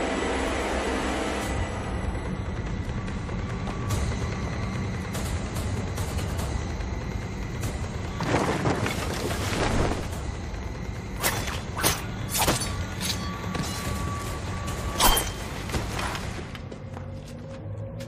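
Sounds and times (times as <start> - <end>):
tense film score: 0.0 - 18.0.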